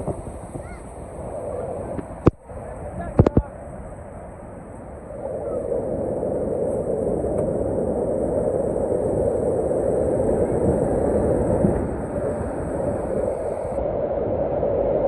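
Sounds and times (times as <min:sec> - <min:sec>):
waterfall roaring: 0:00.0 - 0:13.8.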